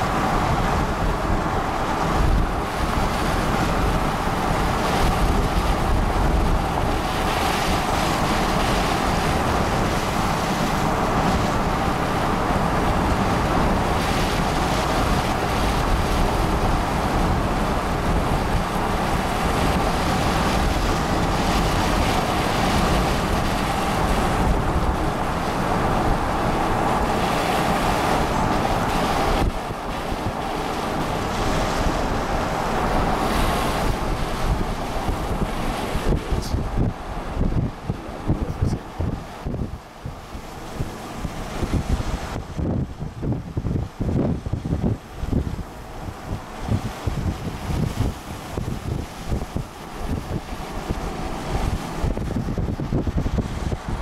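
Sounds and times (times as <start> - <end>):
low vehicle rumble: 0.0 - 54.0
wind buffeting microphone: 0.0 - 54.0.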